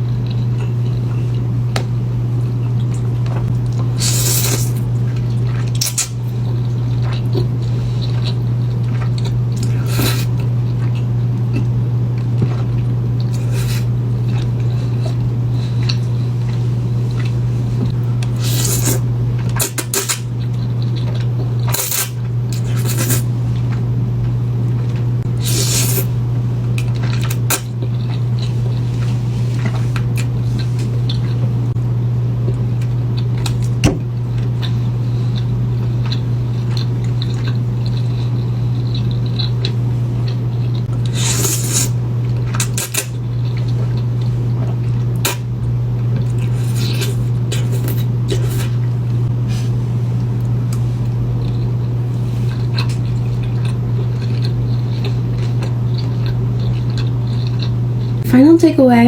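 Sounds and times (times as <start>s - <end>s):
loud low hum: 0.0s - 59.0s.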